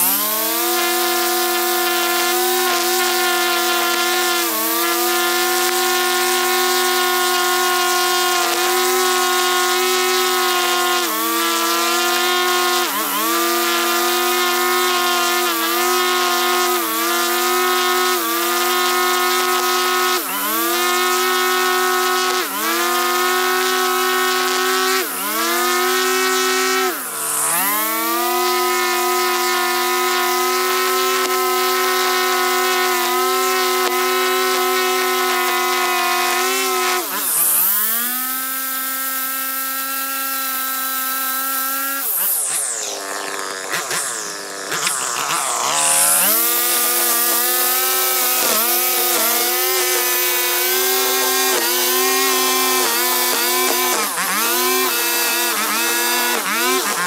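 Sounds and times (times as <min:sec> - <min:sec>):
string trimmer running: 0:00.0 - 0:57.0.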